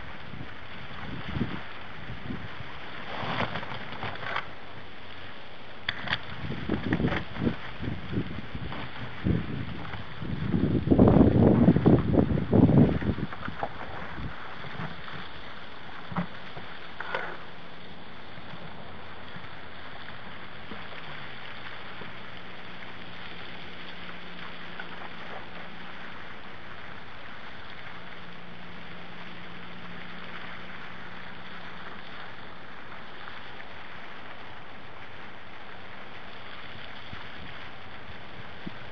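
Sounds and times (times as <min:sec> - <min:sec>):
fountain spray splashing: 0:00.0 - 0:38.9.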